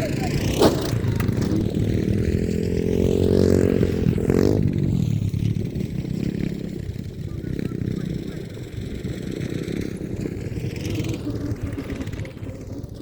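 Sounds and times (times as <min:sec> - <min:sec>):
small engine revving: 0:00.0 - 0:13.0.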